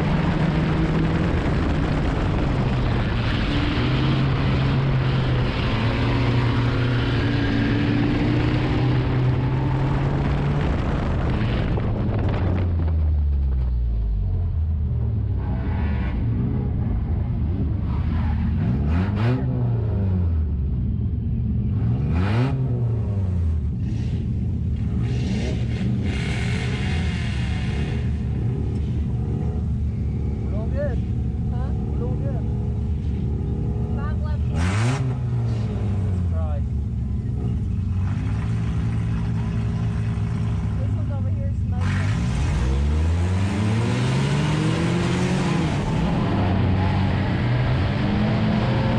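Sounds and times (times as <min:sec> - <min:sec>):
race car engine revving: 0:00.0 - 0:13.0, 0:14.1 - 0:20.6, 0:21.7 - 0:48.9.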